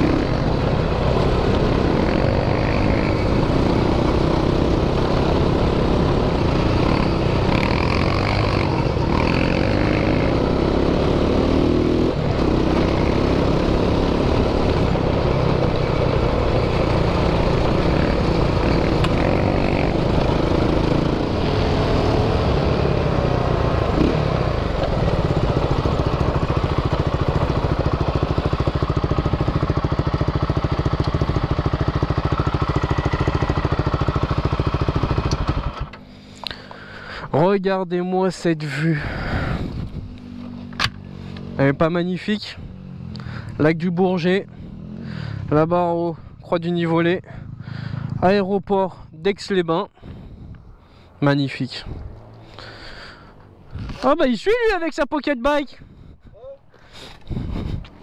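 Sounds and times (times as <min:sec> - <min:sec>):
quad engine revving and idling: 0:00.0 - 0:37.3, 0:38.6 - 0:48.5.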